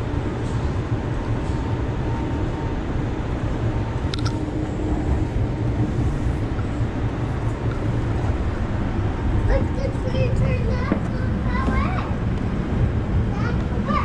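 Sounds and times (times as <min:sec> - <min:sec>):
light-rail car rumbling on track: 0:00.0 - 0:14.0.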